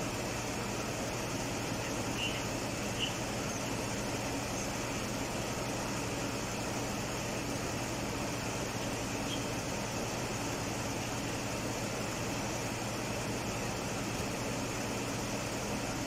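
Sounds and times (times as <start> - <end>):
air conditioning hum: 0.0 - 16.0
car engine idling: 0.0 - 16.0.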